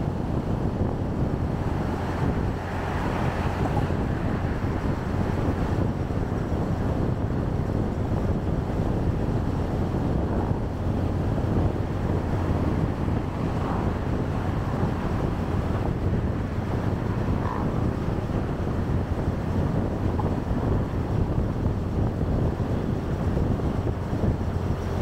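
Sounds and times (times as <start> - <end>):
motorcycle and road noise: 0.0 - 25.0
wind rushing over microphone: 0.0 - 25.0.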